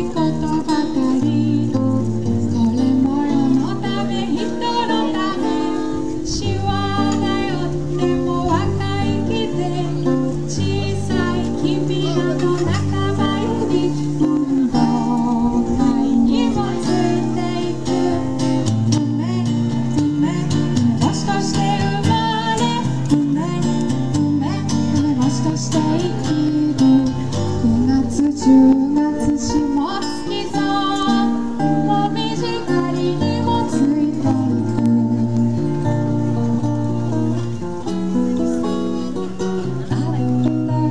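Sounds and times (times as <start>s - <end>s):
woman singing into microphone: 0.0s - 38.8s, 39.4s - 40.9s
acoustic guitar: 0.0s - 40.9s.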